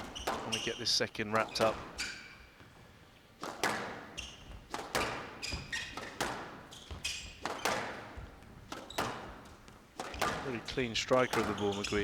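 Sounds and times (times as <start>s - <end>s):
shoes squeaking on court floor: 0.0s - 12.0s
squash ball cracking off rackets: 0.0s - 12.0s.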